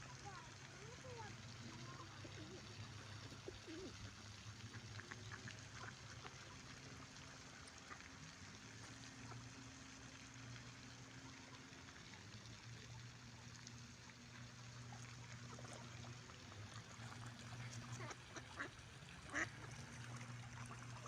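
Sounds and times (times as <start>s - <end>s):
faint outdoor hiss: 0.0s - 21.0s
low steady hum: 0.0s - 21.0s.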